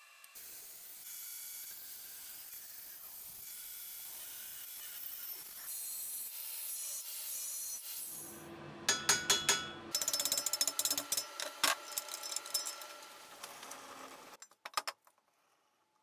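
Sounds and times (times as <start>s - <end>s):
angle grinder cutting steel: 0.3s - 14.4s.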